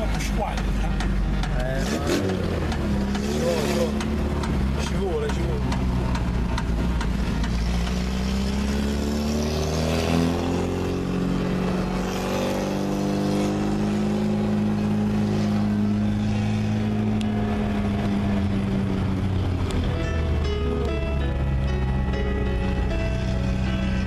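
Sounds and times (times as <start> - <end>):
car engine running from inside cabin: 0.0 - 24.0.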